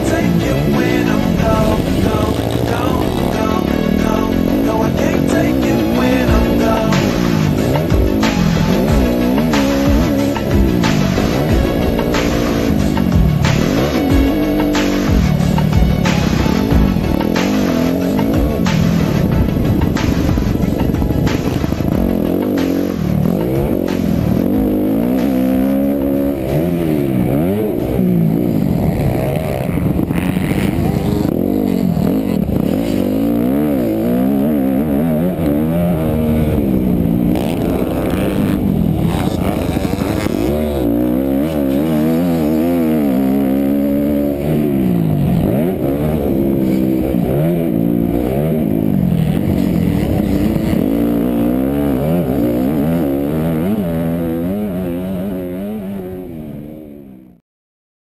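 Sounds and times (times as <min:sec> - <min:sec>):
motocross bike engine revving: 0:00.0 - 0:57.4.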